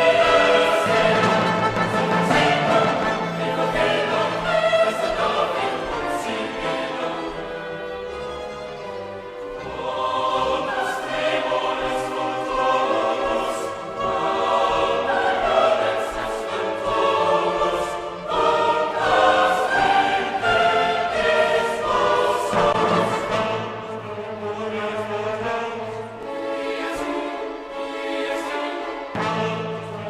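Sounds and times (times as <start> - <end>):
choir singing with orchestra: 0.0 - 30.0.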